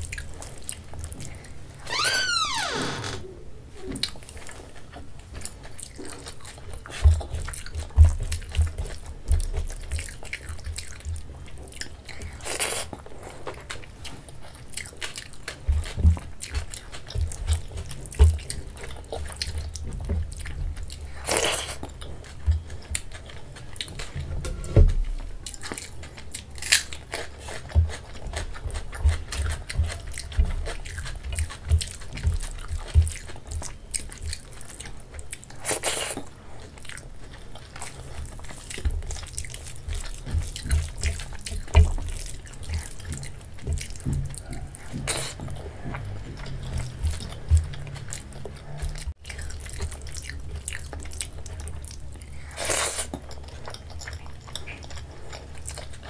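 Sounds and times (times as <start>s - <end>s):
person chewing wet mouth sounds: 0.0s - 1.8s, 3.8s - 56.0s.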